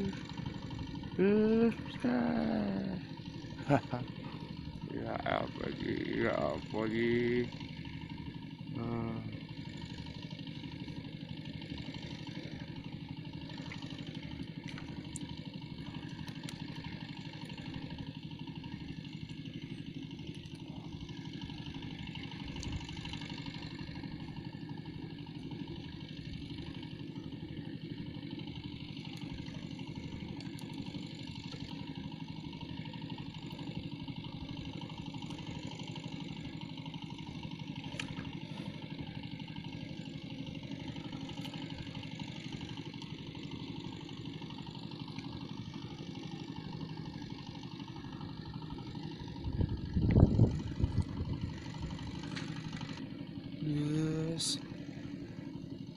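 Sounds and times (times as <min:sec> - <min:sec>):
engine idling: 0:00.0 - 0:55.9.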